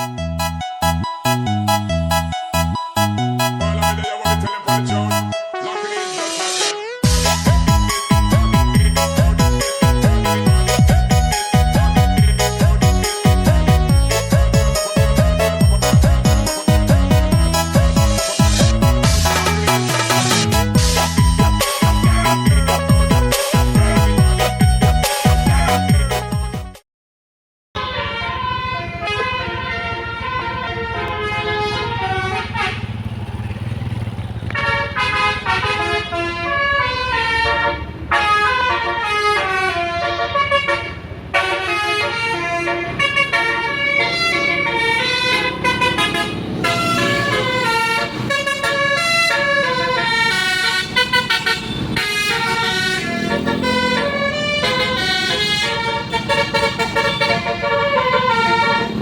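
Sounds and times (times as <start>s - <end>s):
bus air horns playing tunes: 0.0s - 26.8s, 27.8s - 33.9s, 34.5s - 59.0s
bus engine running: 7.0s - 25.4s, 28.0s - 59.0s.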